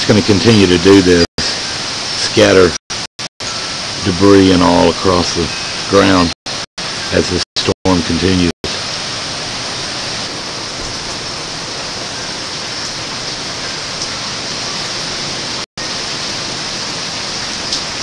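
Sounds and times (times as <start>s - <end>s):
heavy rain and wind hiss: 0.0s - 18.0s.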